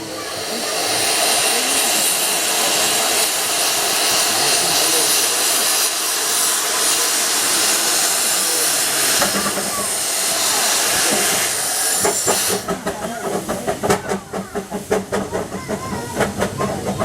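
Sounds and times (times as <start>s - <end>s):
steam locomotive hissing steam: 0.0s - 17.0s.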